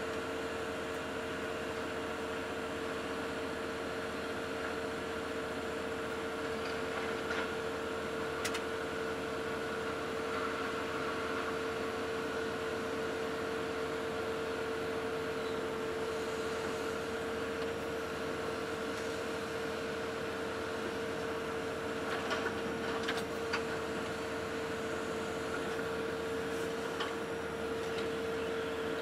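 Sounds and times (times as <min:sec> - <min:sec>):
excavator engine and hydraulics: 0:00.0 - 0:29.0.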